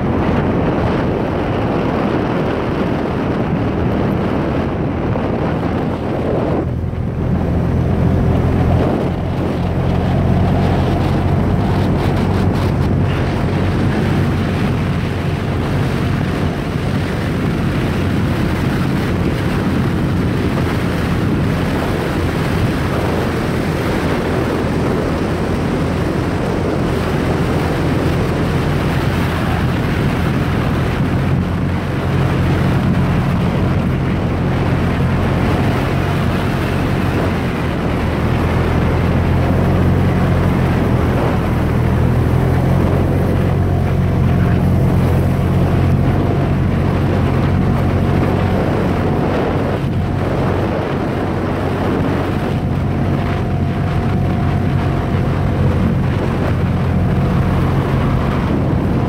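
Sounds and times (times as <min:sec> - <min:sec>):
vehicle engine running: 0:00.0 - 0:59.0
wind noise on microphone: 0:00.0 - 0:59.0.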